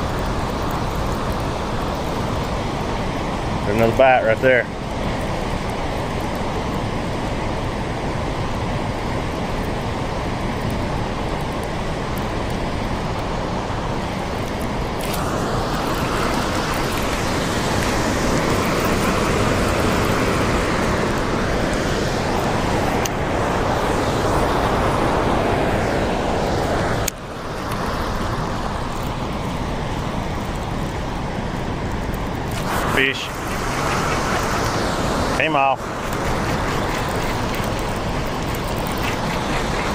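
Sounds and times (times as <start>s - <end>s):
turbulent water rushing: 0.0s - 39.9s.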